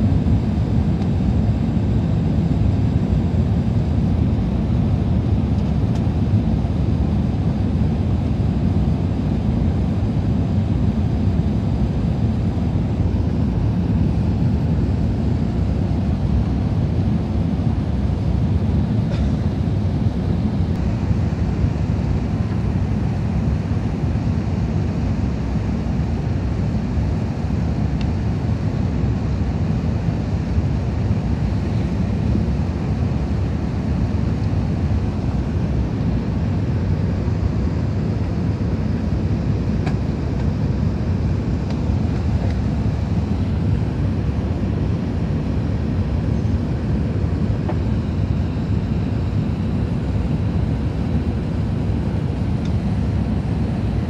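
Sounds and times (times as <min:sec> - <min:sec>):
airplane engines droning: 0:00.0 - 0:54.0.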